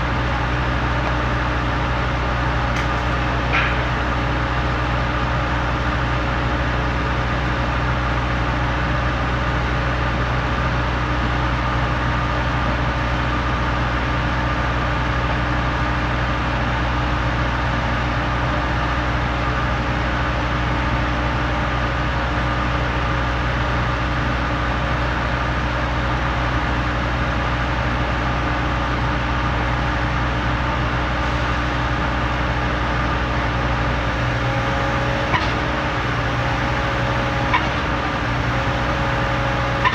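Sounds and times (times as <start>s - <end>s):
concrete pump engine droning: 0.0s - 39.9s.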